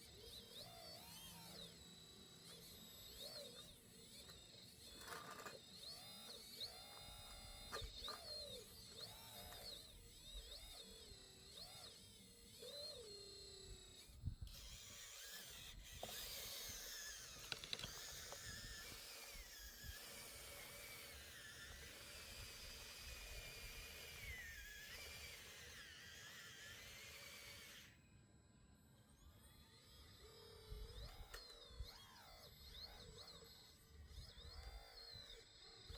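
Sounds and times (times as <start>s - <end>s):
small electric motor whine: 0.0s - 35.9s.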